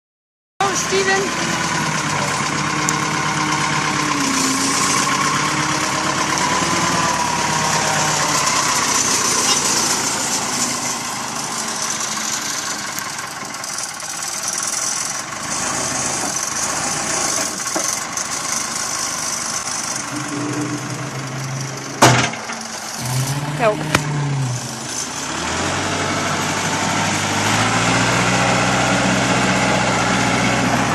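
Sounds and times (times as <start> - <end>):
backhoe engine running: 0.6 - 30.9.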